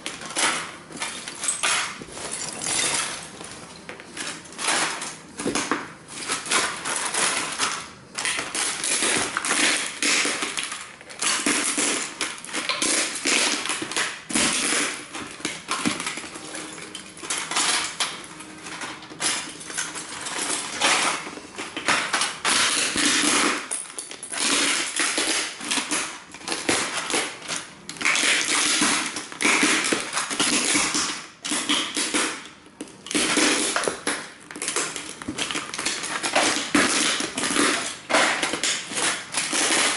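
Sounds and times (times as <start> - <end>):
small pieces crunching and breaking: 0.1 - 39.9.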